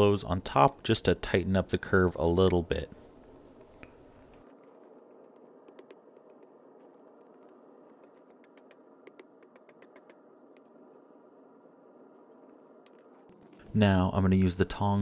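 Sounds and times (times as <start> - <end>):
low hiss: 0.0 - 15.0.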